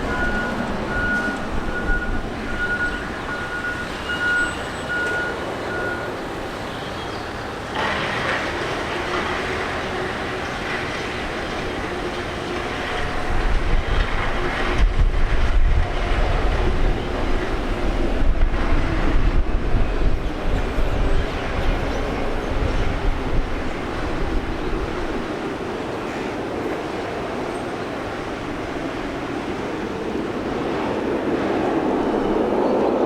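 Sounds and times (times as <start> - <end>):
wind buffeting microphone: 0.0 - 6.6, 9.6 - 33.0
jet airliner rushing: 0.0 - 33.0.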